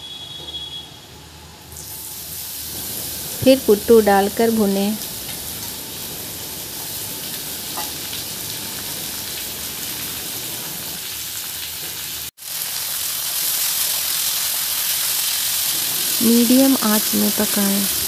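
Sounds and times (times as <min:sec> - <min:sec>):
mushrooms sizzling in oil: 0:01.7 - 0:18.0.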